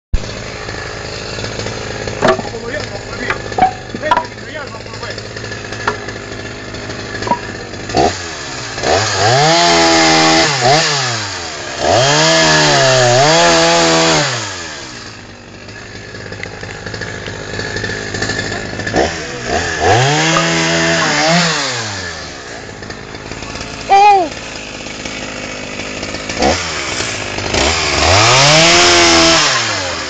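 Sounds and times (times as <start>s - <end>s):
chainsaw idling and revving: 0.2s - 30.0s.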